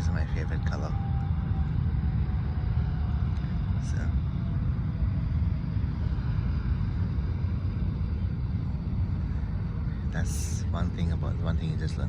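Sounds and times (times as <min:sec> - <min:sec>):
aircraft rumble: 0:00.0 - 0:12.0
traffic: 0:00.0 - 0:12.0
wind buffeting the microphone: 0:00.0 - 0:12.0.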